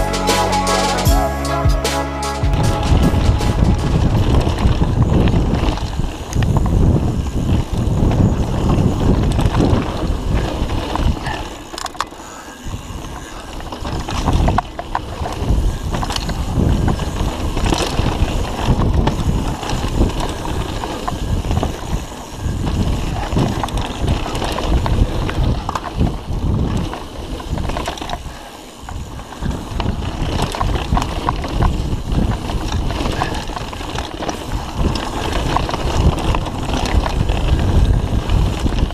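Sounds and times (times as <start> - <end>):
wind buffeting microphone: 2.4 - 38.9
bike rattling over bumps: 2.6 - 38.9.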